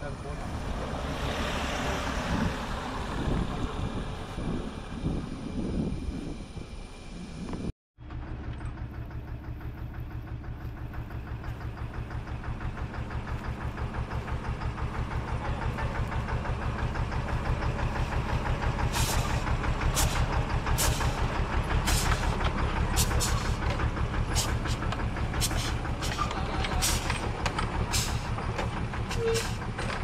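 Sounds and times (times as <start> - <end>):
vehicle engine running: 1.8 - 30.0.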